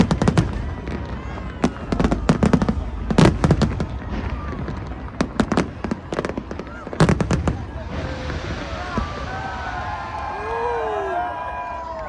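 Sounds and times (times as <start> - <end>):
fireworks exploding: 0.0 - 11.7.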